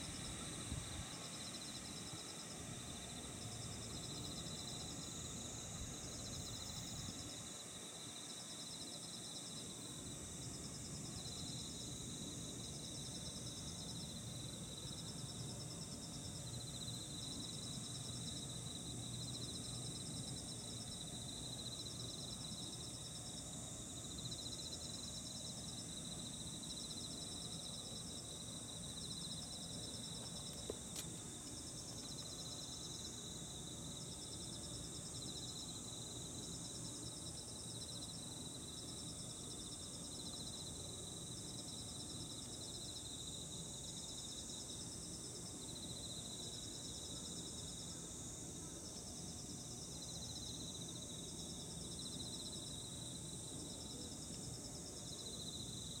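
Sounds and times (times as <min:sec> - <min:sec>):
insects calling with pulsed trills: 0:00.0 - 0:56.0.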